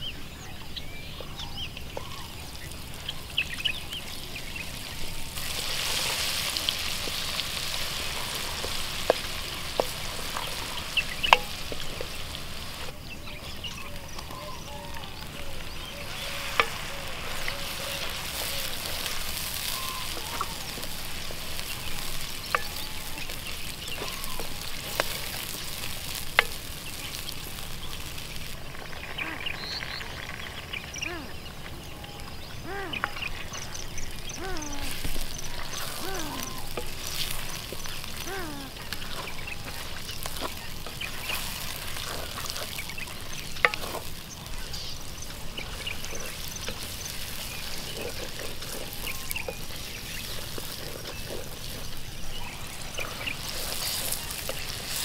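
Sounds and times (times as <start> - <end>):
food sizzling: 0.0 - 55.0.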